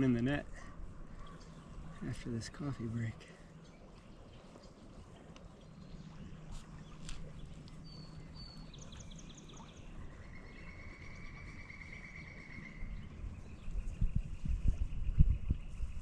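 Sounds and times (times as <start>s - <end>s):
small songbirds singing: 1.1s - 16.0s.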